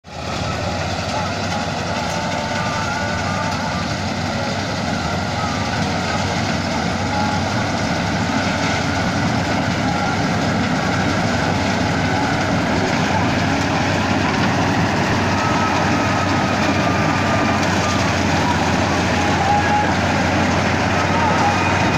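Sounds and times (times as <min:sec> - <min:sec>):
combine harvester engine drone: 0:00.0 - 0:21.9.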